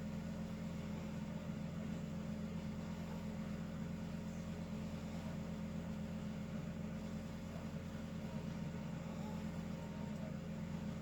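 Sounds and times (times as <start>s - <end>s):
low mechanical hum with hiss: 0.0s - 11.0s.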